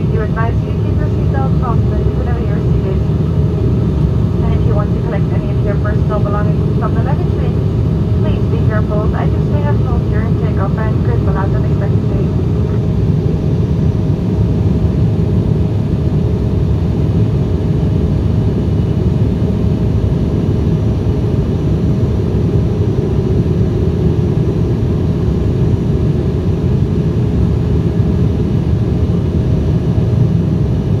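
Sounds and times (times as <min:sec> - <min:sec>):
jet engines droning: 0:00.0 - 0:31.0.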